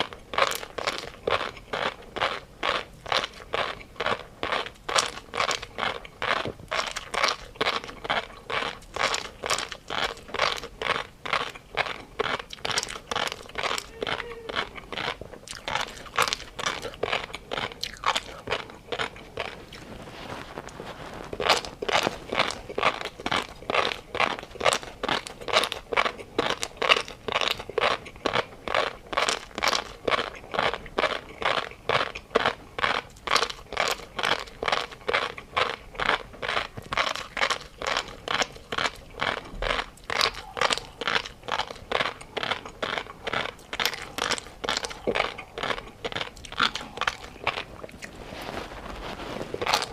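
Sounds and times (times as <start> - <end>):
person chewing crunchy food: 0.0 - 49.9.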